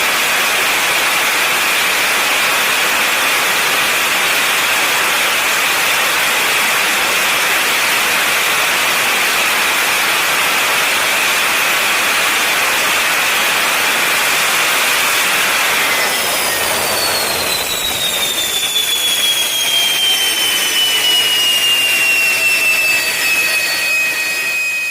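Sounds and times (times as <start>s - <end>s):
jet engine roaring: 0.0s - 24.9s
high whine sliding down: 4.0s - 24.9s.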